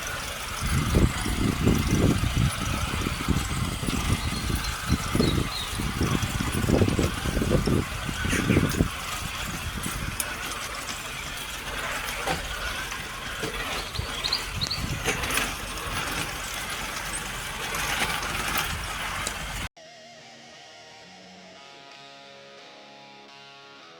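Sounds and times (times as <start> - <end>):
chassis knocking on terrain: 0.0 - 19.7
rc truck motor running: 0.0 - 19.7.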